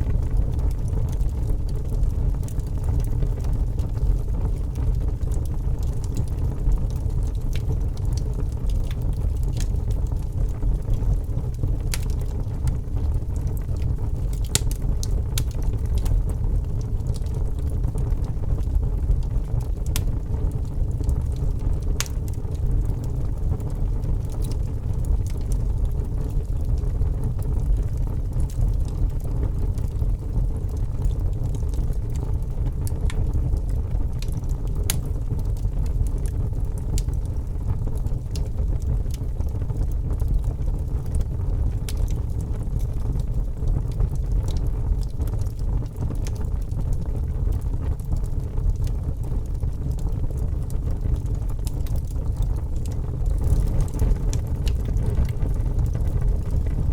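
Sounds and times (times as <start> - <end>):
fire flames rumbling: 0.0 - 56.9
logs crackling and popping: 0.0 - 56.9.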